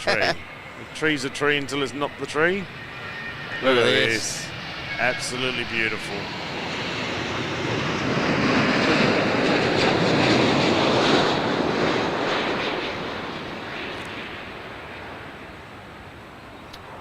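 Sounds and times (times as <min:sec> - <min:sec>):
jet aircraft passing by: 0:00.0 - 0:17.0.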